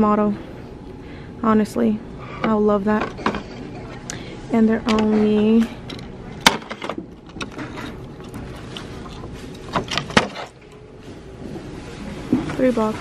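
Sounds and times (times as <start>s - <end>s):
shop background noise: 0.0s - 13.0s.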